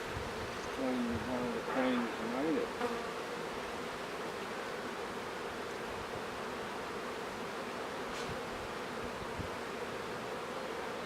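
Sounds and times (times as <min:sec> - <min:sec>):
honeybee colony buzzing: 0:00.0 - 0:11.0.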